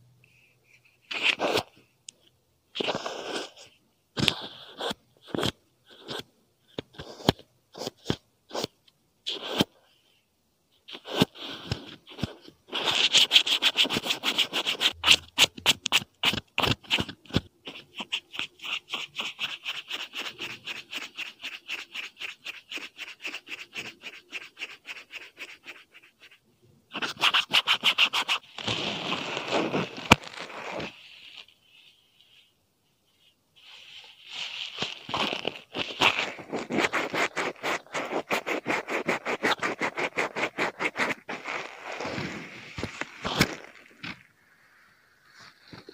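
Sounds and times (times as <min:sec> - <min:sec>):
rubbing and scratching: 0:00.3 - 0:01.9, 0:02.7 - 0:10.2, 0:10.8 - 0:45.9.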